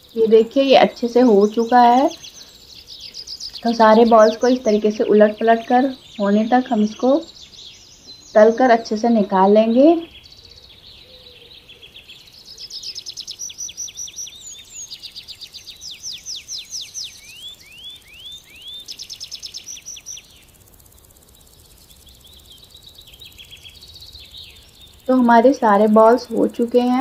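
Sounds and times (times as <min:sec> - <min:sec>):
small bird singing trills: 0:00.0 - 0:27.0.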